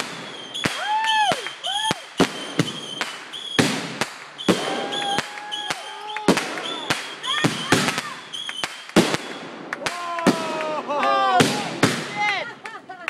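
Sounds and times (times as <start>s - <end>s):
fireworks whistling: 0.0s - 12.6s
fireworks bangs and pops: 0.0s - 13.0s.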